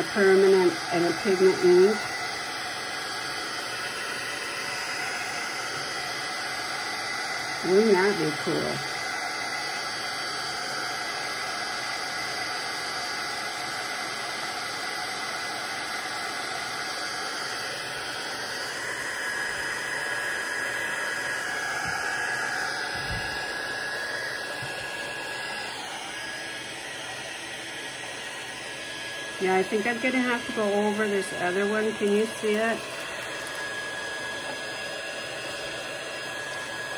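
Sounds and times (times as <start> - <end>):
heat gun blowing air with faint whine: 0.0 - 36.9.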